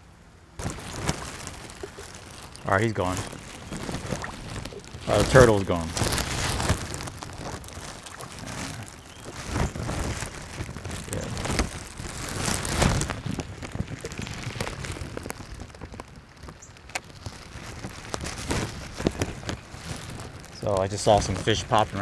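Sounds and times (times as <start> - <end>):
rain pattering on a pond: 0.6 - 22.0.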